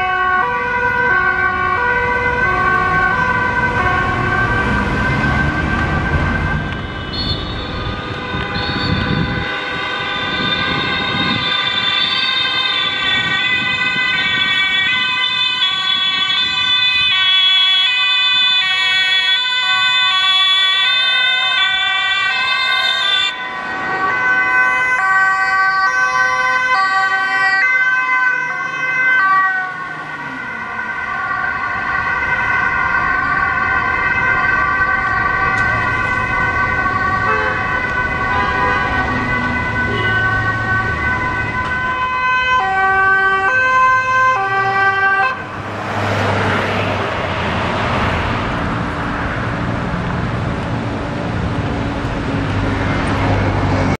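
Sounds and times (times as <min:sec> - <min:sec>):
passing traffic rush: 0:00.0 - 0:54.0
two-tone sirens: 0:00.0 - 0:54.0.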